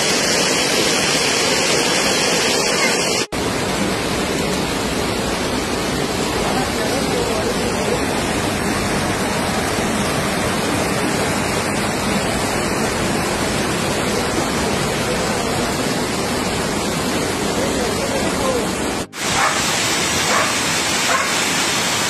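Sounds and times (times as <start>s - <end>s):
floodwater rushing down a street: 0.0s - 22.0s.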